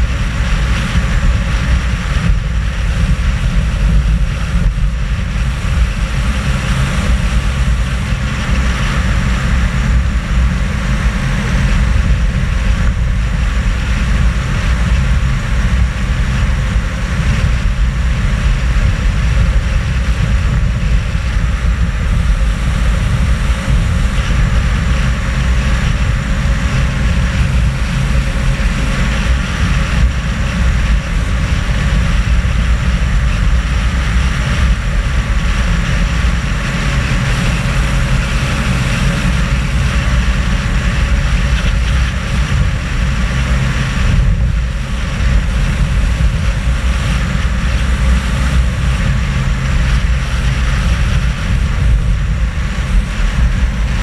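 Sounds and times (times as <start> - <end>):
engine and tyre drone: 0.0 - 54.0
wind rushing over camera: 0.0 - 54.0.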